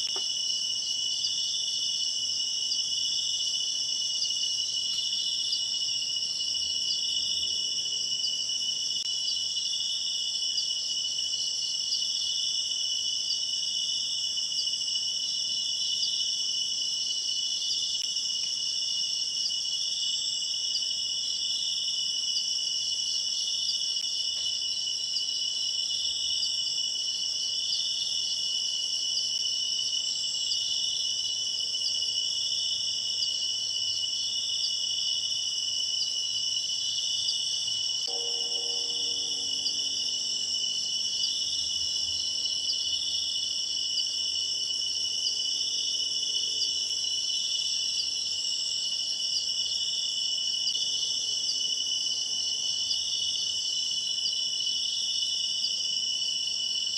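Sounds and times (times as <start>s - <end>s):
crickets and night insects: 0.0s - 56.9s.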